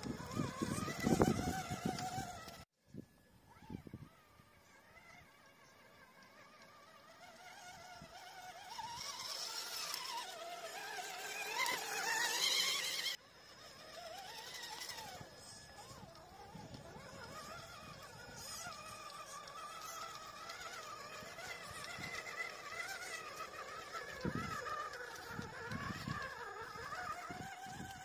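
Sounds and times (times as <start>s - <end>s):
electric motor and gears whining: 0.0s - 28.0s.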